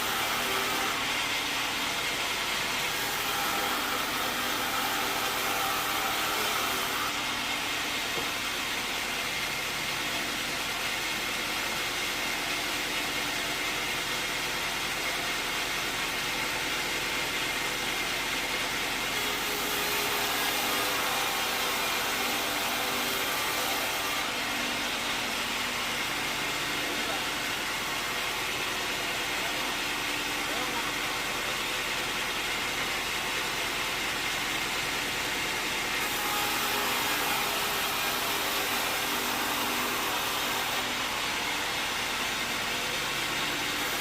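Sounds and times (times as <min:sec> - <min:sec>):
sawmill machinery hum and hiss: 0:00.0 - 0:44.0.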